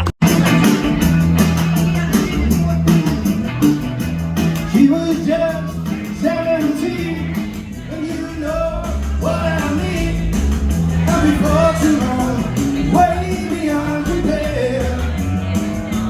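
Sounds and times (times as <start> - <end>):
bass line: 0.0 - 16.0
person singing: 0.0 - 16.0
rock and roll band playing: 0.0 - 16.0.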